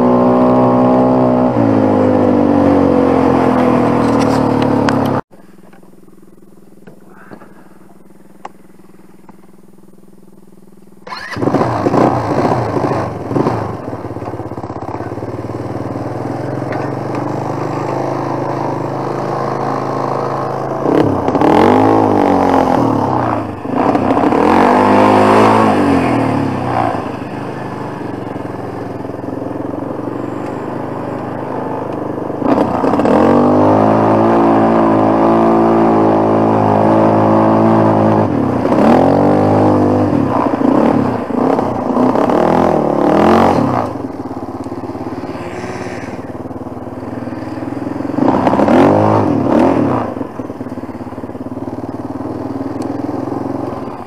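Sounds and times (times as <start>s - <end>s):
quad bike engine revving: 0.0s - 5.2s, 11.0s - 54.0s.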